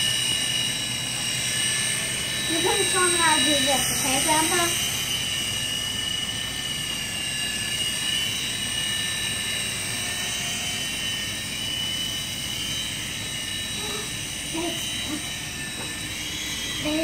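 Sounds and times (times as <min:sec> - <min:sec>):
rotor whirring hiss: 0:00.0 - 0:17.0
toy helicopter motor whine: 0:00.0 - 0:17.0.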